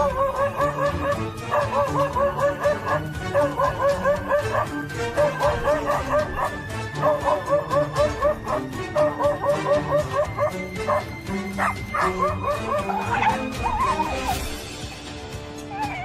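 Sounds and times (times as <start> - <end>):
background music: 0.0 - 16.0
dog barking: 0.7 - 14.2.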